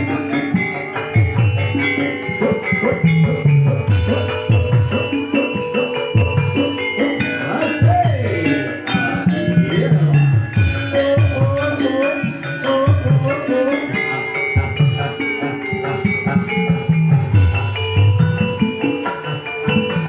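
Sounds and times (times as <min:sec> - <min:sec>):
hand drums with pitch-bending strokes: 0:00.0 - 0:20.0
struck ringing metal-keyed notes: 0:00.0 - 0:20.0.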